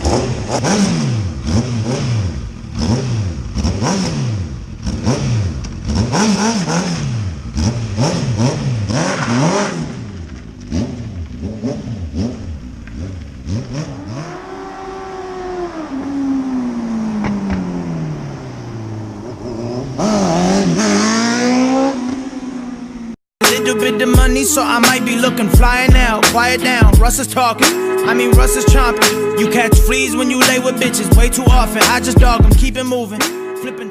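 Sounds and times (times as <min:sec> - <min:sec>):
motorcycle engine revving: 0:00.0 - 0:33.1.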